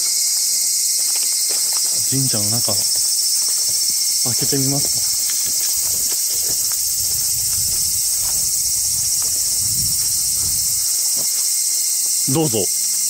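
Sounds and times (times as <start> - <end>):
footsteps thumping and rustling: 0.0 - 11.7
insects droning: 0.0 - 13.0.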